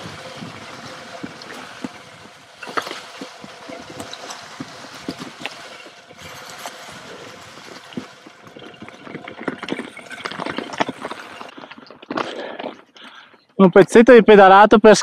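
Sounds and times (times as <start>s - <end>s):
tyres hissing on stony trail: 0.0s - 13.3s
bike clicking and rattling: 0.0s - 13.6s.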